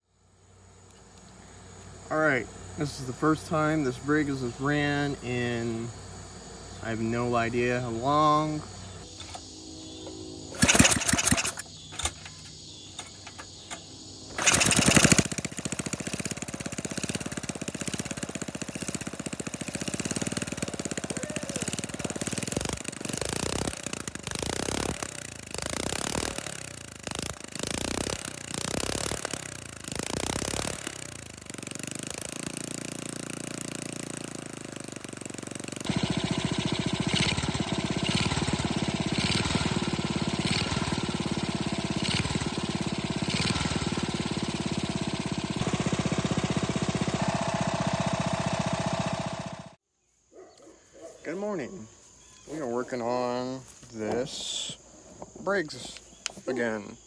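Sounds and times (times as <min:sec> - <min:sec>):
small engine running unevenly: 0:00.7 - 0:49.8
small engine cranking: 0:02.6 - 0:05.9, 0:10.5 - 0:49.8, 0:52.3 - 0:57.0.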